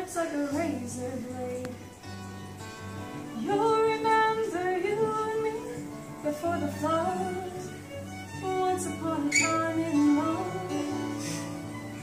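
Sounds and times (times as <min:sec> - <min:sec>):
woman singing: 0:00.0 - 0:02.0, 0:03.2 - 0:12.0
acoustic guitar: 0:00.0 - 0:12.0.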